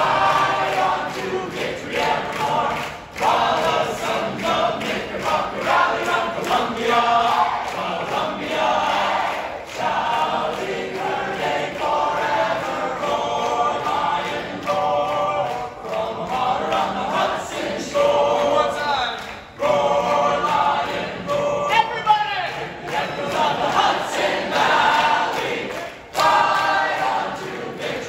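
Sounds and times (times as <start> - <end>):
male group singing in harmony: 0.0 - 21.8, 22.6 - 28.0.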